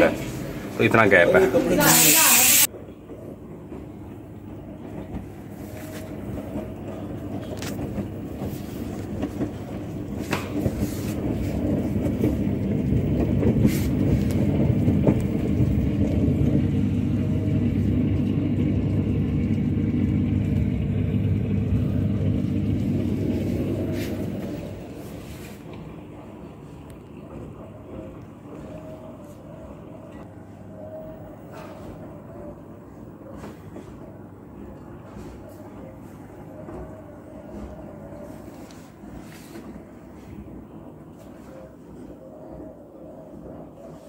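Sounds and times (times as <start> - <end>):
washing machine hum and rumble: 0.0 - 44.0.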